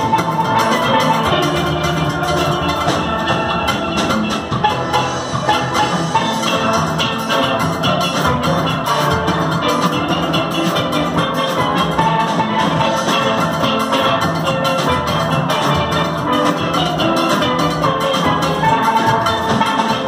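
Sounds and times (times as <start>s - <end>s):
steel band playing: 0.0s - 20.0s.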